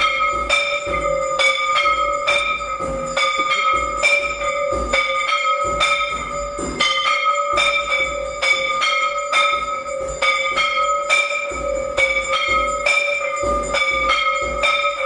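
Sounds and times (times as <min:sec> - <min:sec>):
temple bells ringing fast: 0:00.0 - 0:15.0.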